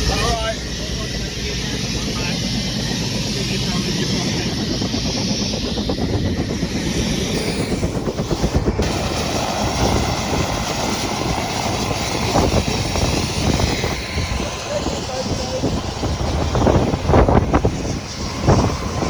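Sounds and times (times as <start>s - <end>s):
helicopter engine whine: 0.0s - 19.0s
helicopter rotor beating: 0.0s - 19.0s.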